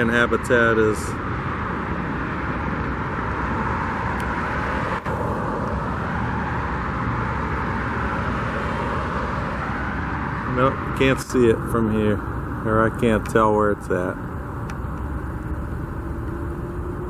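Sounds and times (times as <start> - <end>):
rumbling traffic noise: 0.0 - 17.0.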